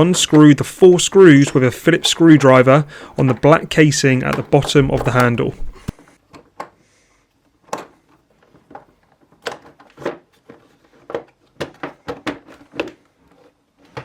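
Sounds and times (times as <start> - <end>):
plastic parts clicking and tapping: 0.0 - 6.8, 7.6 - 14.0.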